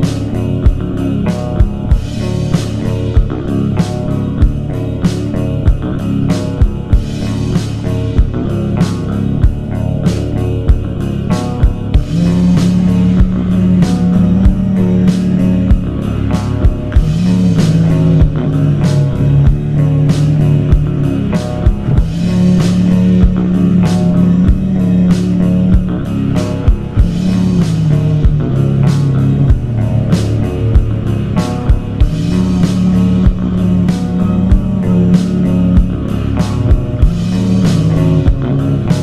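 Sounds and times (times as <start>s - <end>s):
slowed reverb rock music: 0.0s - 39.0s.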